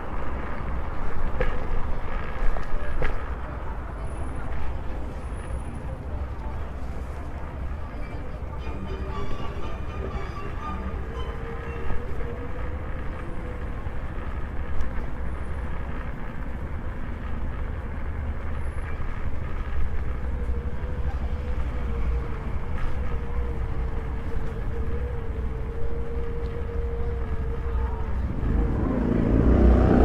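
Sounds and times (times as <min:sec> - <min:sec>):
wheel and wind rumble: 0:00.0 - 0:30.0.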